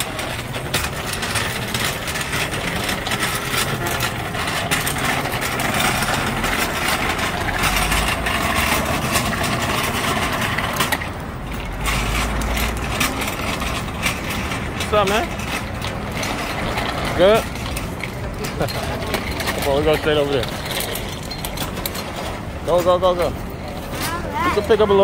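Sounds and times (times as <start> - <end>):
bicycle wheels rattling on concrete: 0.0 - 25.0
traffic: 0.0 - 25.0.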